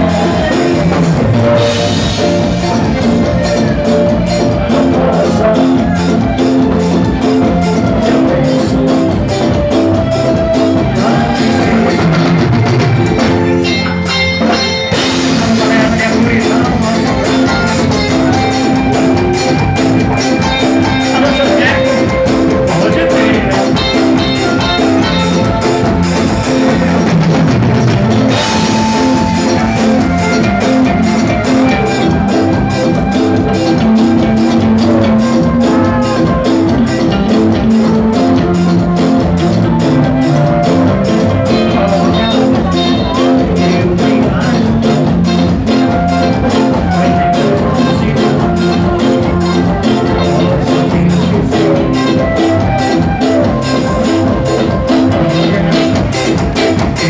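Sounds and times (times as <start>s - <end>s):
amplified dance music band: 0.0s - 57.0s
drum kit beat: 0.0s - 57.0s
electric guitar: 0.0s - 57.0s.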